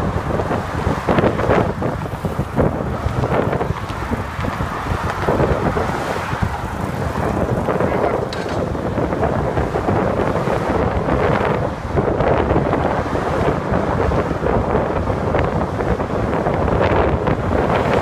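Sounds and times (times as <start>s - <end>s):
car traffic: 0.0s - 18.0s
wind buffeting microphone: 0.0s - 18.0s.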